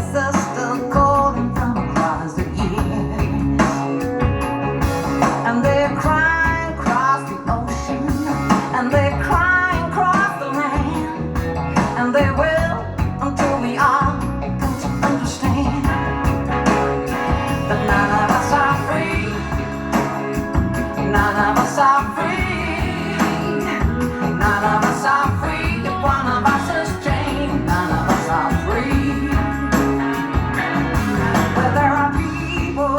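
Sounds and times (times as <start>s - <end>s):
song with singing and steady beat: 0.0s - 32.9s.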